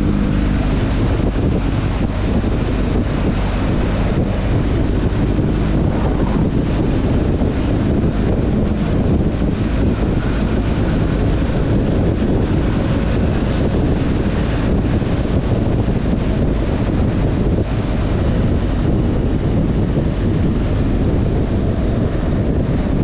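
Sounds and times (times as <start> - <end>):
motorcycle engine: 0.0 - 23.0
wind buffeting microphone: 0.0 - 23.0.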